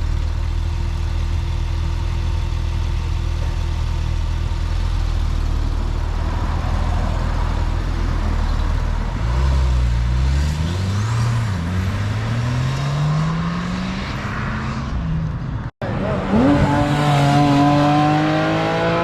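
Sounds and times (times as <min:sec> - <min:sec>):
car engine idling and accelerating: 0:00.0 - 0:19.0.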